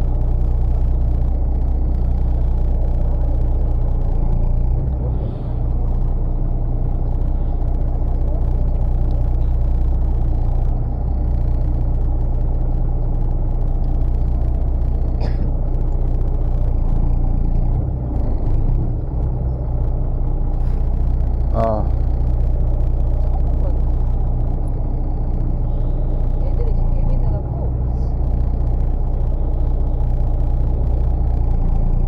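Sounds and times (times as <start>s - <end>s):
boat engine humming: 0.0s - 32.0s.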